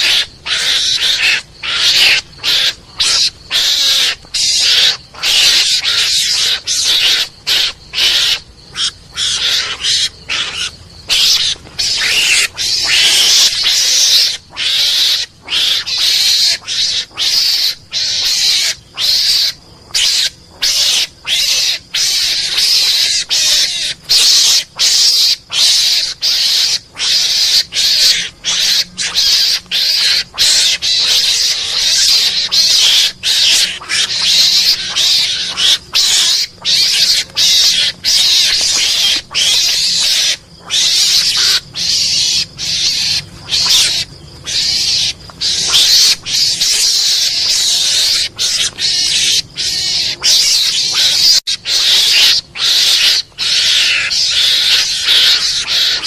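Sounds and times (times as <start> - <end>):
mongoose chattering cries: 0.0 - 56.0.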